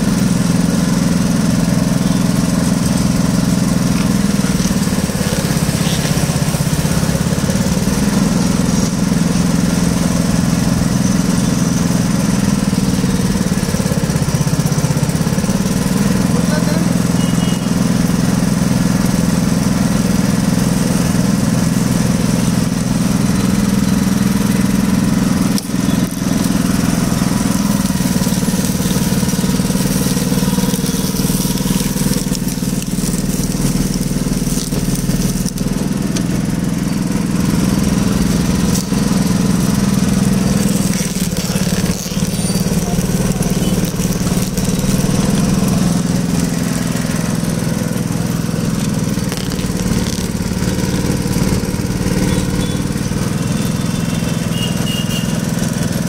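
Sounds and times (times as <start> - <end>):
juice crusher motor humming: 0.0 - 56.0.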